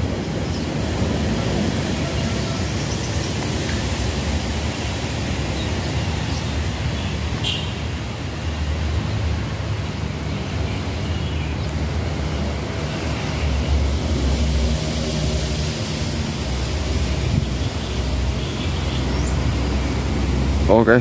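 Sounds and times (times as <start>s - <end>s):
locomotive engine drone: 0.0s - 21.0s
steady rushing noise: 0.0s - 21.0s.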